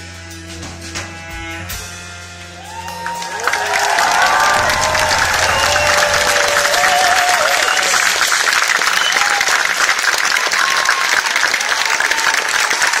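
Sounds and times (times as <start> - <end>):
audience applauding: 2.6 - 13.0
voices cheering: 2.6 - 13.0.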